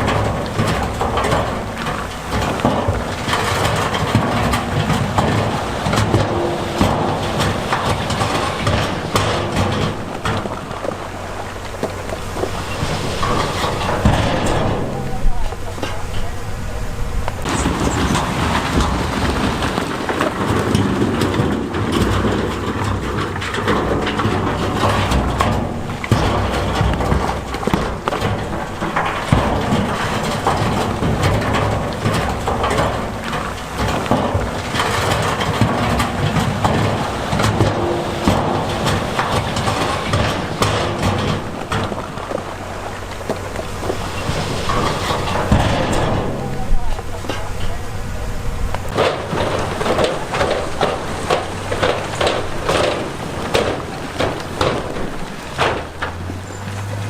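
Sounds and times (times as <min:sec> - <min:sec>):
diesel engine rumble: 0:00.0 - 0:57.0
rocks knocking and sliding: 0:00.0 - 0:57.0.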